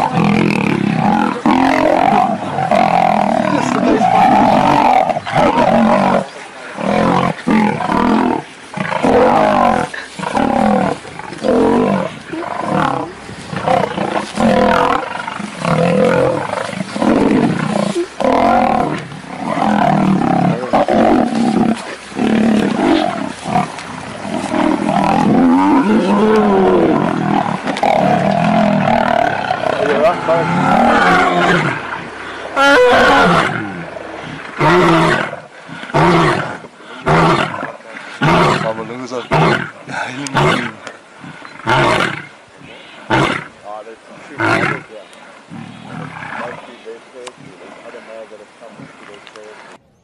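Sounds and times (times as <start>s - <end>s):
lions snarling and roaring: 0.0s - 48.1s.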